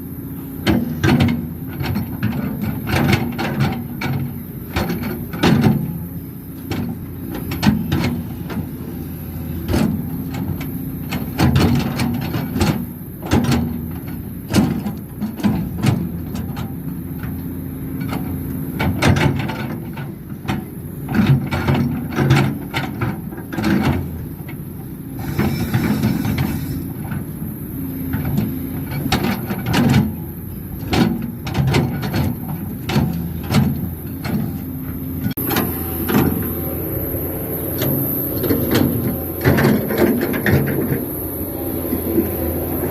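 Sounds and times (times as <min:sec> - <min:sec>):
excavator engine humming: 0:00.0 - 0:42.9.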